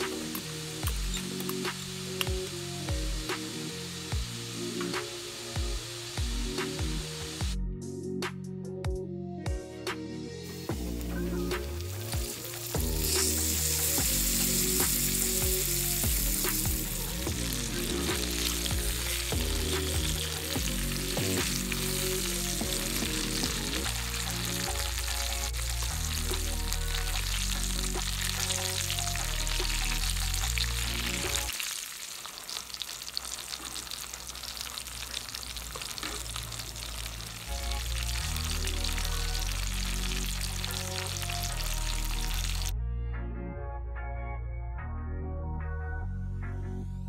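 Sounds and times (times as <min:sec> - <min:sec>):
chicken sizzling in a frying pan: 0:00.0 - 0:07.6, 0:10.5 - 0:42.7
background music: 0:00.0 - 0:31.6, 0:35.8 - 0:47.0.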